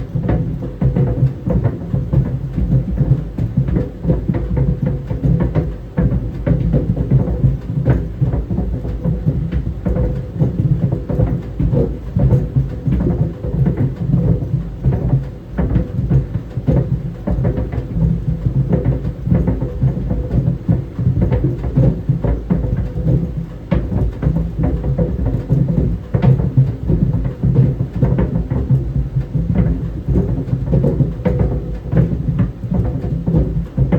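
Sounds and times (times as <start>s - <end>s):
balls thudding in dryer drum: 0.0s - 33.9s
clothes dryer rumble: 0.0s - 33.9s.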